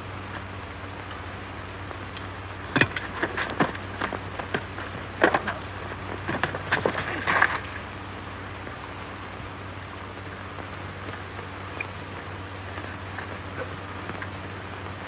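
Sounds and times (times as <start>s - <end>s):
film soundtrack hiss and hum: 0.0s - 15.0s.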